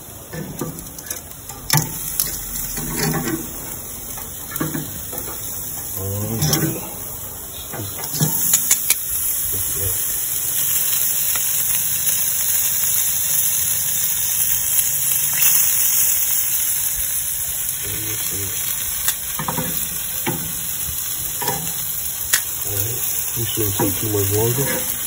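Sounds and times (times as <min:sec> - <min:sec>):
seafood sizzling on a grill: 0:00.0 - 0:25.0.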